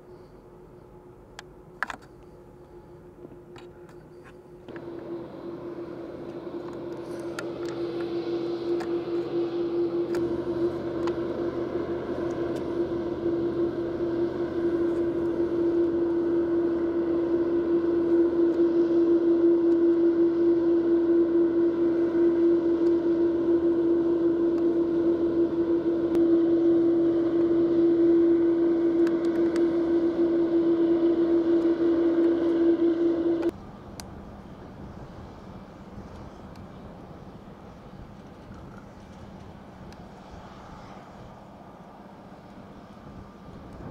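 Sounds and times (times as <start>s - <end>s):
jet engines droning whine: 0.0s - 43.9s.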